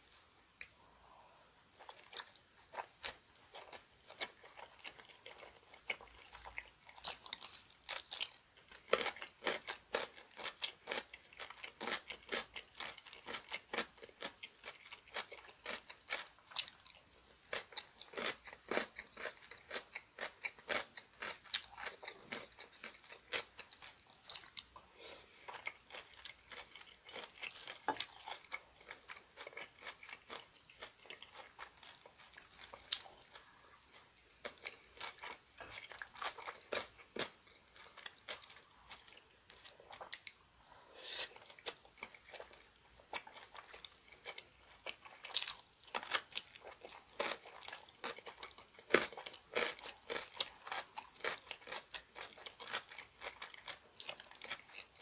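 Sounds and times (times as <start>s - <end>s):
crunching of food: 1.8s - 40.4s, 41.3s - 55.0s.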